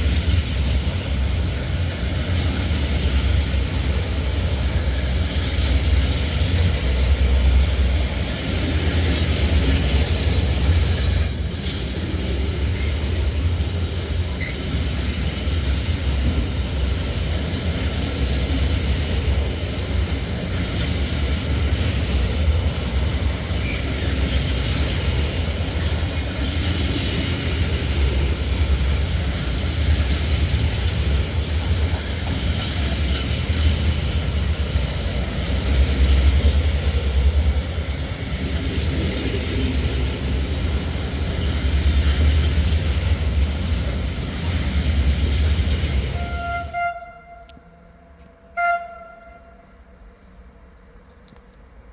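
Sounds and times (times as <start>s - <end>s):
train rumbling past: 0.0s - 51.9s.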